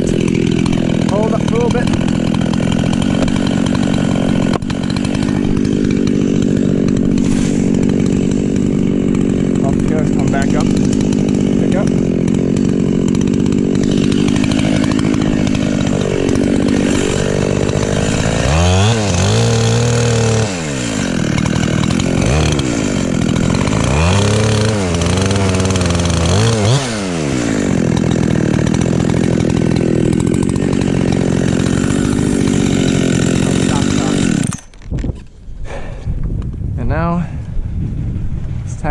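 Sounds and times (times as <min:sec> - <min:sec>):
chainsaw cutting tree: 0:00.0 - 0:36.6.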